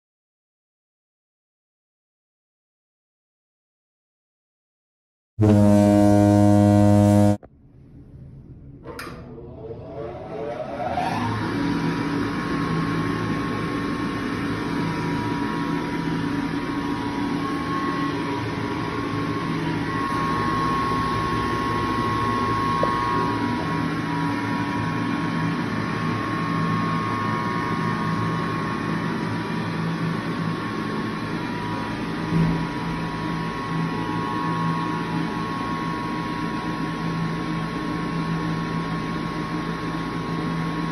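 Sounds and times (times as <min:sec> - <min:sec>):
hand dryer motor whining: 0:05.4 - 0:07.5, 0:09.0 - 0:40.9.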